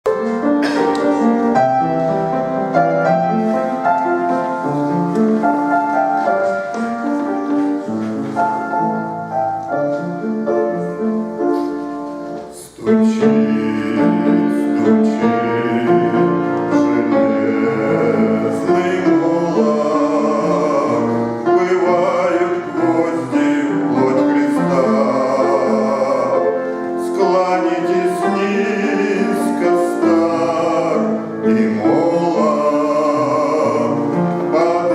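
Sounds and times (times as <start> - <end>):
hymn singing: 0.0 - 34.9
keyboard chords and melody: 0.0 - 34.9.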